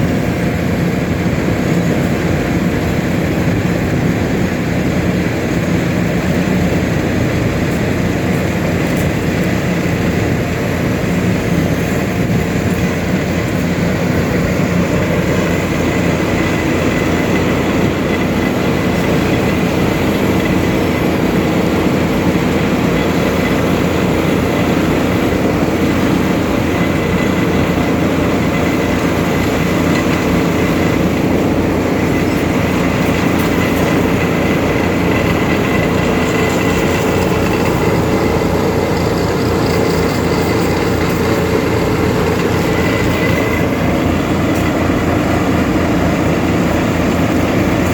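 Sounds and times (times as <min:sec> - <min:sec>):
heavy paving machinery drone: 0:00.0 - 0:47.9.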